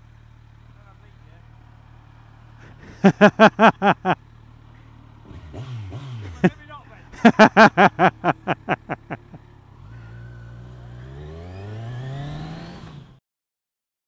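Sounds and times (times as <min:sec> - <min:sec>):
motorcycle engine accelerating: 0:00.0 - 0:13.2.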